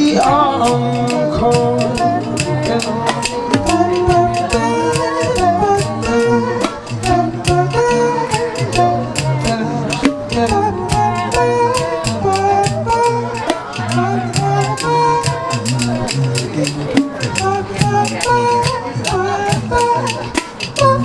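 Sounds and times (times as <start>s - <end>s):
cajon drumming: 0.0s - 21.0s
vocal ensemble singing in parts: 0.0s - 21.0s.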